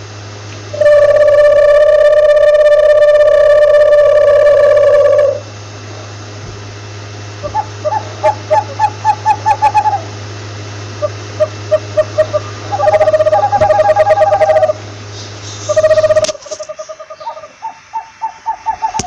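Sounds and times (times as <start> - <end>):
steady low hum: 0.0 - 19.0
owl hooting: 0.7 - 5.5, 7.4 - 10.2, 11.0 - 19.0.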